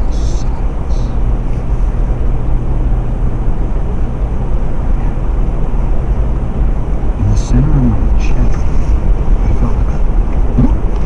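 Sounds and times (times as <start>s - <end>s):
low hum: 0.0s - 11.0s
tyres rolling on rough road: 0.0s - 11.0s.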